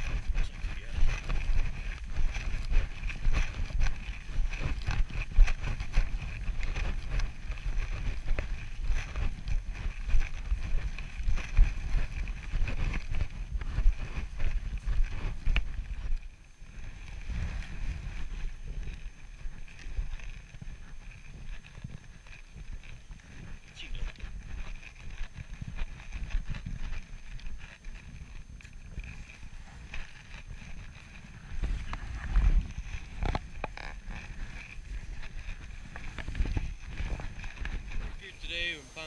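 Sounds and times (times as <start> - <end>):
footsteps in snow: 0.0 - 39.0
wind rumbling on microphone: 0.0 - 39.0.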